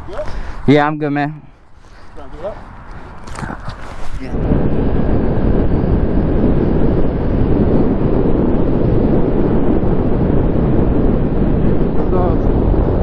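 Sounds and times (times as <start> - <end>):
wind roaring over microphone: 0.0 - 13.0.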